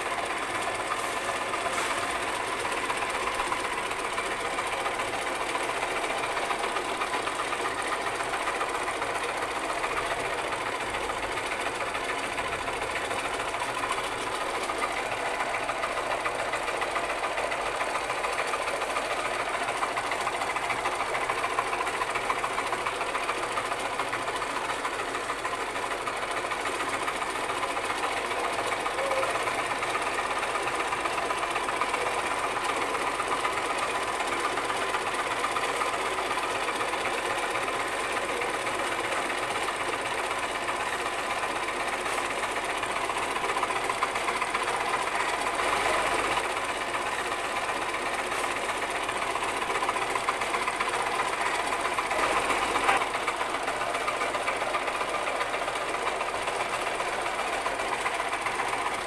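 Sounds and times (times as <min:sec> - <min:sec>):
sewing machine running: 0:00.0 - 0:59.0.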